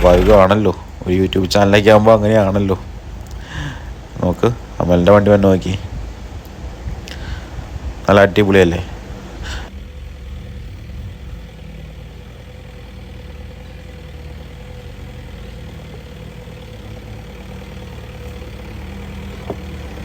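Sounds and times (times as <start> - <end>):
vehicle engine running at low revs: 0.0 - 20.0.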